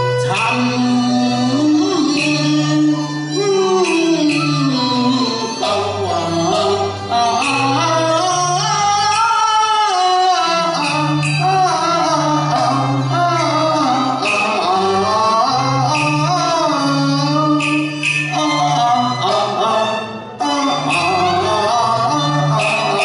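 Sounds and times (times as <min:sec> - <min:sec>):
instrumental accompaniment: 0:00.0 - 0:23.0
man singing opera: 0:00.0 - 0:23.0.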